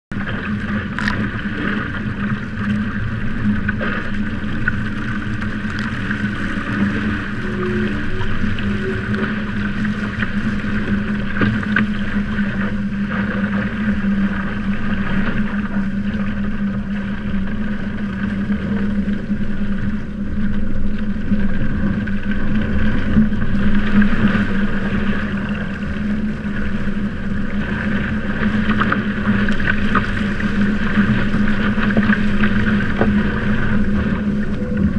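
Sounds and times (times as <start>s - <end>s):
steady low hum: 0.1s - 34.9s
water rushing past hulls: 0.1s - 34.9s
wind on microphone: 0.1s - 34.9s.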